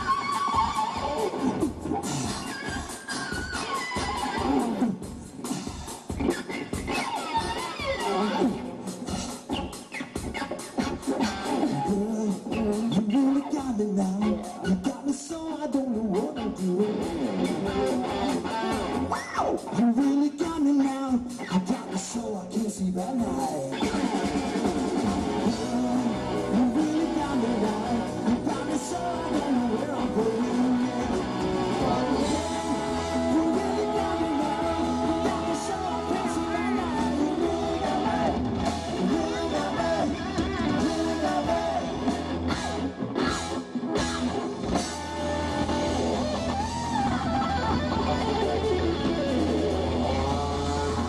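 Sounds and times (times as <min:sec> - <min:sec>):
drum kit: 0:00.0 - 0:22.0, 0:22.6 - 0:51.0
bass guitar: 0:00.0 - 0:51.0
electric guitar: 0:00.0 - 0:51.0.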